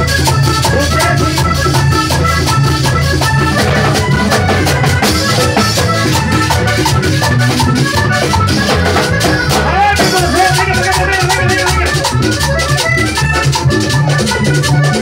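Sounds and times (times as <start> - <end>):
accordion melody: 0.0 - 15.0
bass and drums: 0.0 - 15.0.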